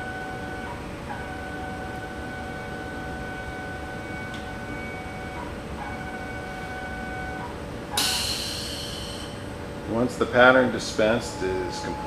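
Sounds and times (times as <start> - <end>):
drive motors whining: 0.0 - 9.6, 10.2 - 12.0.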